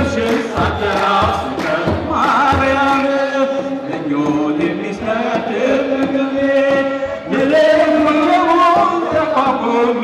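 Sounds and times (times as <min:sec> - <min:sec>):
group singing a hymn: 0:00.0 - 0:10.0.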